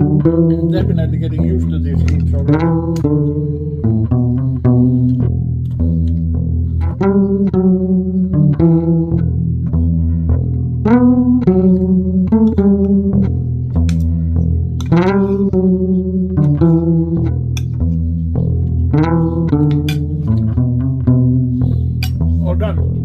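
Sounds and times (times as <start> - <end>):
deep bass line: 0.0 - 23.0
plucked guitar notes: 0.0 - 23.0.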